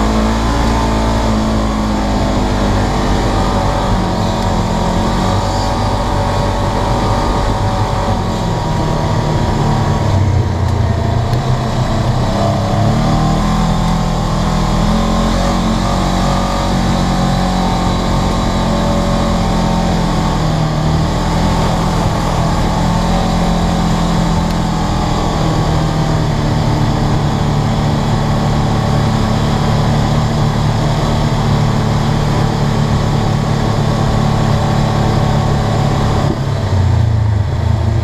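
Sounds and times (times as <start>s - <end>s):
off-road vehicle engine running: 0.0s - 38.0s.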